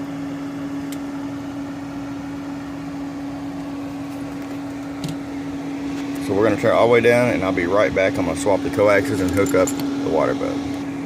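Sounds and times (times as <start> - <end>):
fan whir: 0.0 - 11.0
steady electrical tone: 0.0 - 11.0.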